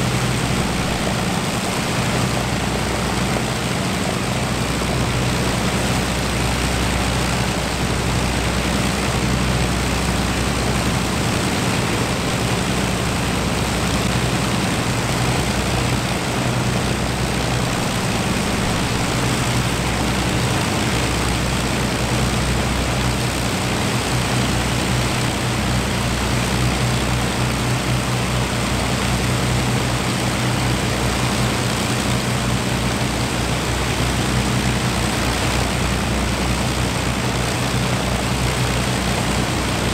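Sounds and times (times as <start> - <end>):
aircraft piston engines running: 0.0 - 39.9.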